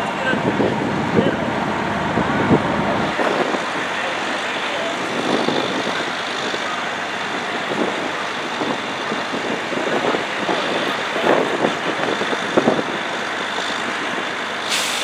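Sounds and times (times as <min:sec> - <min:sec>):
fire truck engine idling: 0:00.0 - 0:15.0.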